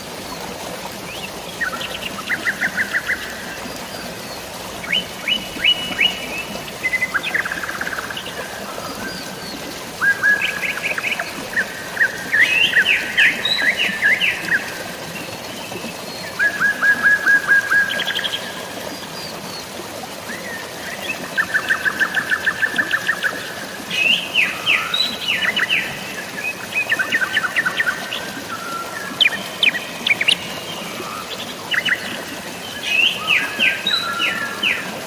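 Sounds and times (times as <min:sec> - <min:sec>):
drizzling rain: 0:00.0 - 0:35.0
flowing water: 0:00.0 - 0:35.0.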